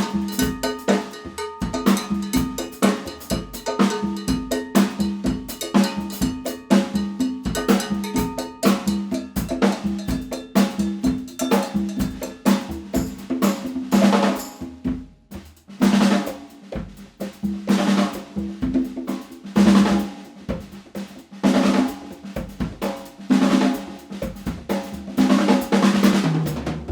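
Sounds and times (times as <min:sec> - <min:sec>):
drum kit hits and fills: 0:00.0 - 0:26.9.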